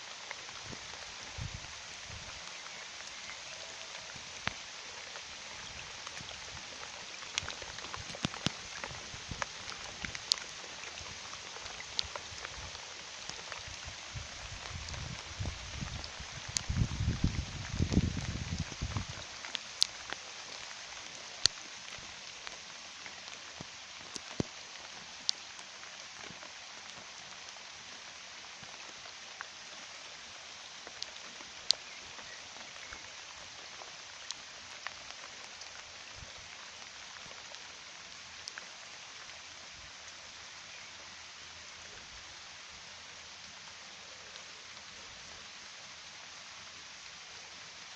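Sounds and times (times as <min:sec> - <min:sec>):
rain pattering on pond water: 0:00.0 - 0:47.9.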